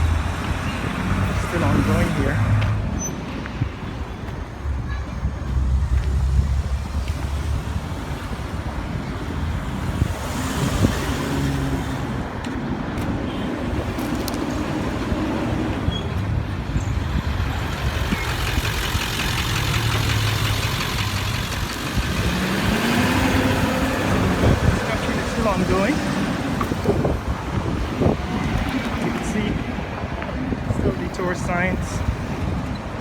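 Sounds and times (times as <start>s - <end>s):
car and truck engines running: 0.0s - 33.0s
tyres on the road: 0.0s - 33.0s.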